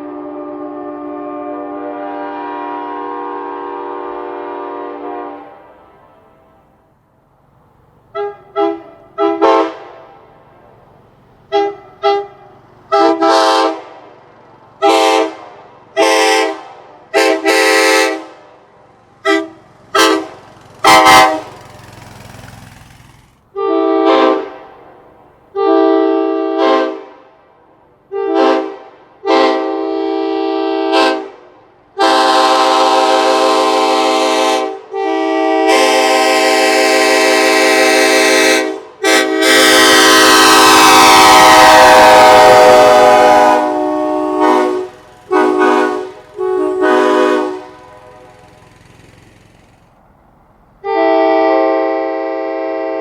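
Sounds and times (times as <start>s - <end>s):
train horn short toots: 0.0s - 6.6s, 8.1s - 10.3s, 11.5s - 14.0s, 14.8s - 18.5s, 19.2s - 21.6s, 23.6s - 24.9s, 25.6s - 27.3s, 28.1s - 31.4s, 32.0s - 48.7s, 50.8s - 53.0s
horn blasts: 0.0s - 6.7s, 8.1s - 10.4s, 11.4s - 22.5s, 23.5s - 27.3s, 28.1s - 31.4s, 32.0s - 49.6s, 50.8s - 53.0s.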